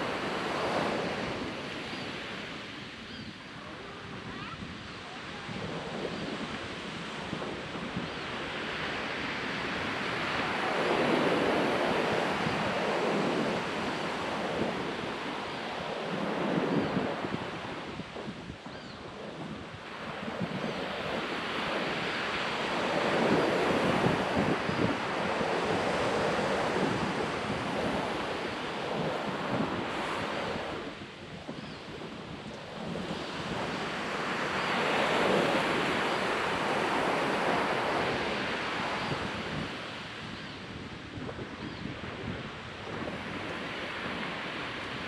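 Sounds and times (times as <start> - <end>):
ocean surf breaking on beach: 0.0 - 45.0
wind on microphone: 0.0 - 45.0.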